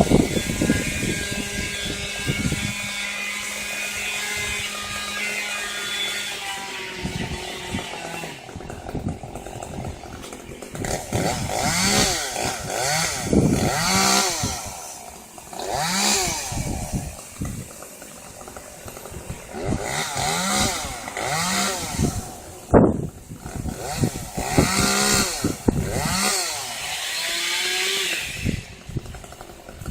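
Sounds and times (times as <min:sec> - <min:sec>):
chainsaw engine revving: 0:00.0 - 0:29.9.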